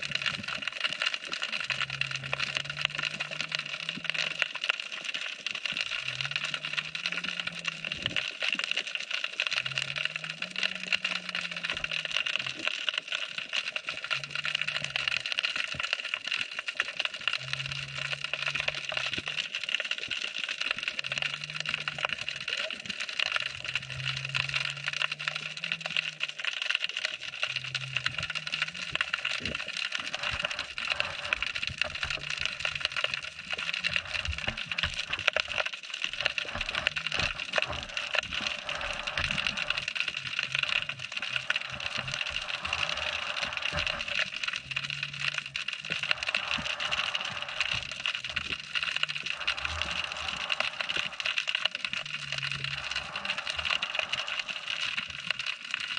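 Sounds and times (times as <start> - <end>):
snapping shrimp crackle underwater: 0.0 - 55.9.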